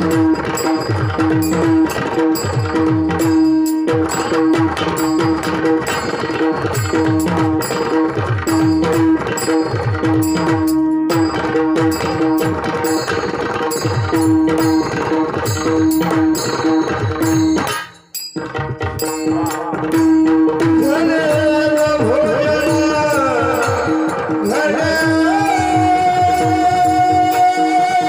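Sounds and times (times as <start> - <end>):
hand drum rapid strokes: 0.0 - 27.6
sharp regular percussion: 0.0 - 28.0.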